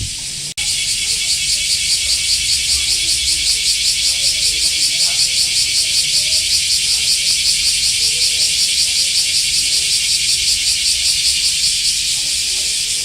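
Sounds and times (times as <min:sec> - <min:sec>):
cicada buzzing: 0:00.0 - 0:13.0.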